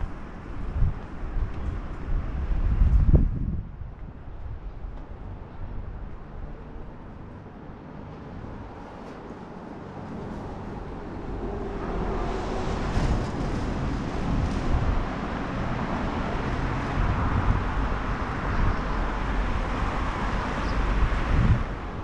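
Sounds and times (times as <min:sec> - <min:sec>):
steady traffic noise: 0:00.0 - 0:22.0
wind gusts on microphone: 0:00.0 - 0:22.0.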